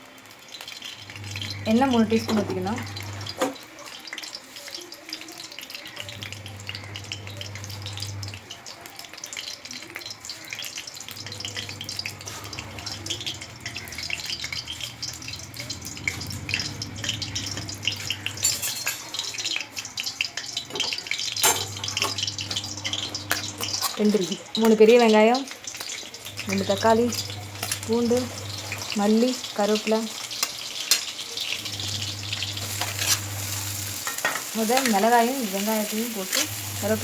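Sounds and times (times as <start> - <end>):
oil sizzling in a pan: 0.0 - 37.0.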